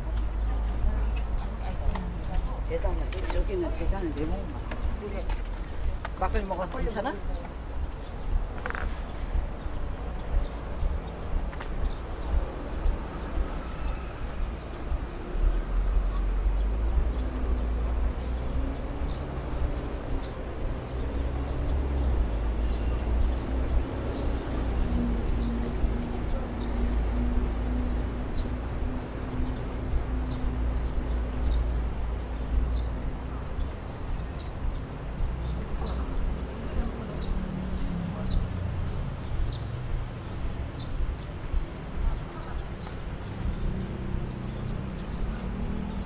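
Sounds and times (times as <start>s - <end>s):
engine hum: 0.0s - 46.0s
traffic rumble: 0.0s - 46.0s.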